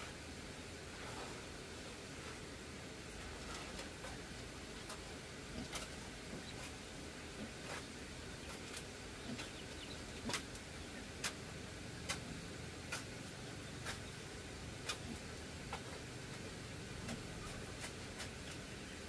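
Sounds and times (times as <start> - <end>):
steady low hiss: 0.0 - 19.0.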